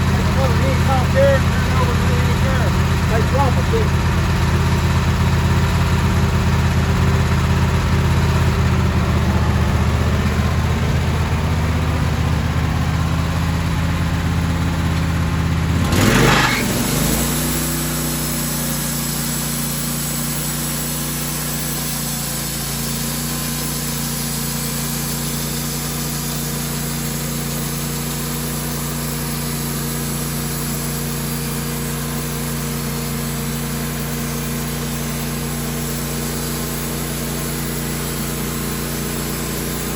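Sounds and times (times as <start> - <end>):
engine idling: 0.0 - 39.9
engine surge: 0.0 - 39.9.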